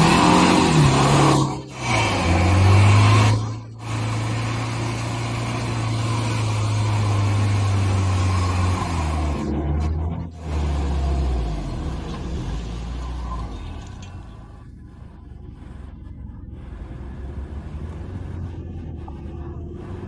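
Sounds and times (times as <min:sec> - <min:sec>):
suv engine droning under load: 0:00.0 - 0:20.0.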